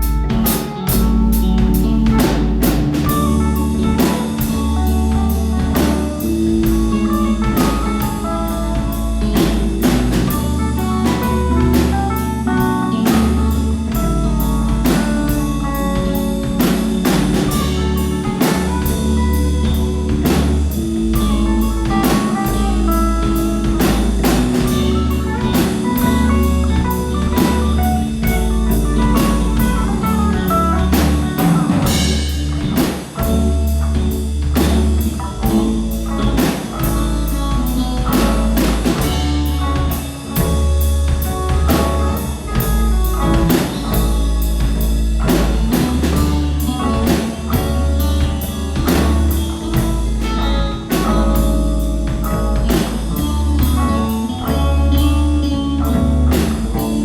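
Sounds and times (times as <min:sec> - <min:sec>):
drum kit beat: 0:00.0 - 0:57.0
rock band playing: 0:00.0 - 0:57.0.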